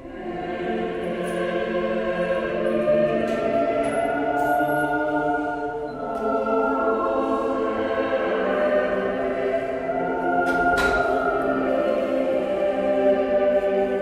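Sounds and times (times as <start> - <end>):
choir singing a chant: 0.0 - 14.0.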